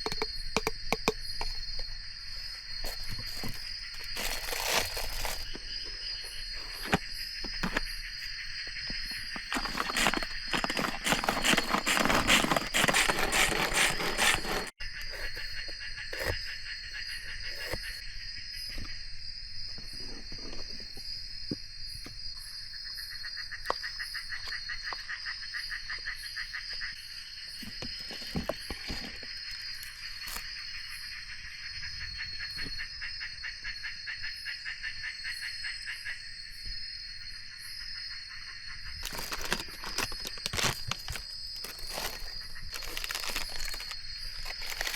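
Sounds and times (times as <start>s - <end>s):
crickets and cicadas droning: 0.0s - 44.9s.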